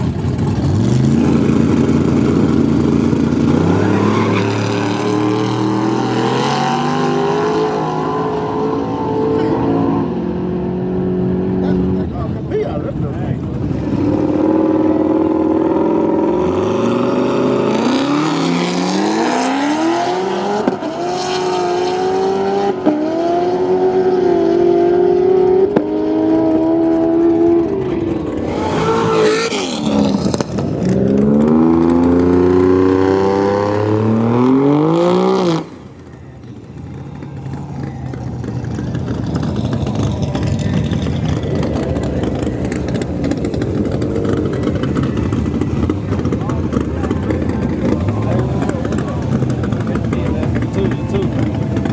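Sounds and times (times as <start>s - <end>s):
race car engines at full throttle: 0.0s - 51.9s.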